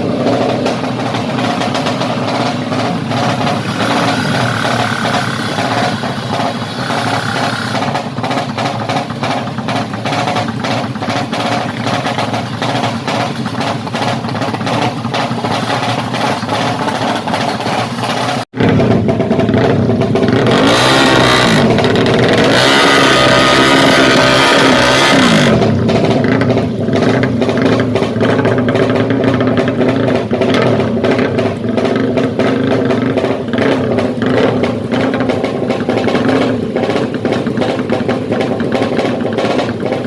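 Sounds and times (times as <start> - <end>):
motorcycle engine idling and revving: 0.0 - 40.0.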